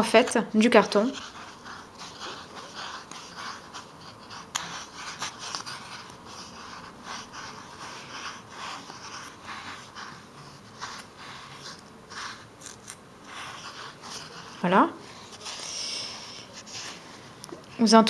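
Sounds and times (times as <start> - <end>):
yarn rustling over cardboard: 1.0 - 17.9.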